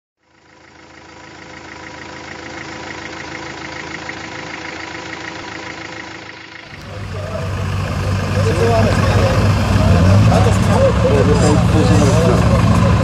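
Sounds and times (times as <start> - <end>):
engine idling with knocking: 0.2 - 13.0.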